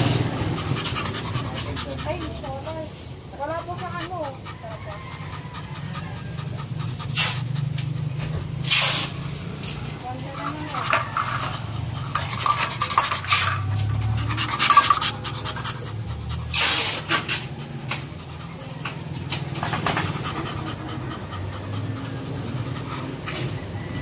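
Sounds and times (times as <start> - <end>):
dog panting rapidly: 0.0 - 24.0.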